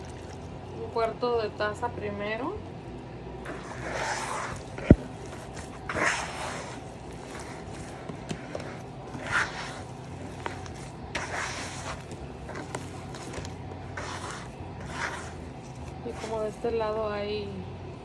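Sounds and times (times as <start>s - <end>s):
hand squelching dough in bowl: 0.0s - 2.6s, 3.4s - 17.2s.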